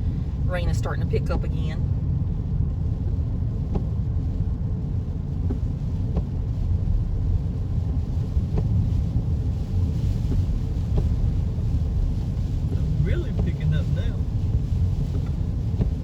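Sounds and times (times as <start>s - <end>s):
car driving on wet road: 0.0s - 16.0s.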